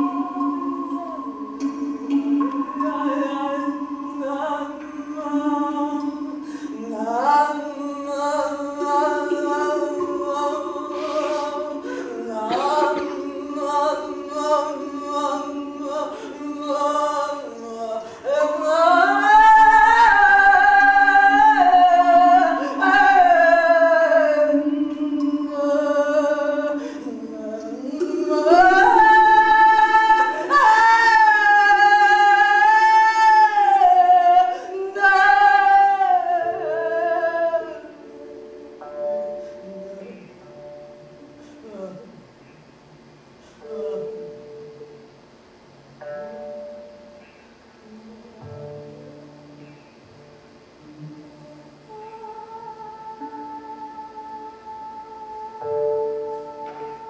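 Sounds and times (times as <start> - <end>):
woman singing wordless notes: 0.0 - 57.0.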